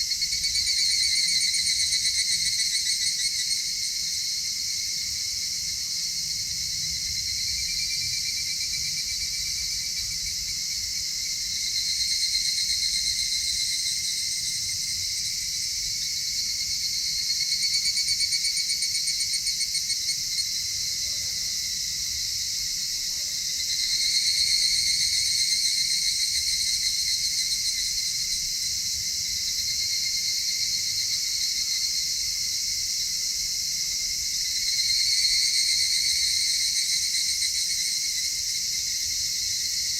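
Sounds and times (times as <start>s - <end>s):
insects trilling in chorus: 0.0s - 39.9s
rapidly pulsed insect trill: 0.0s - 39.9s.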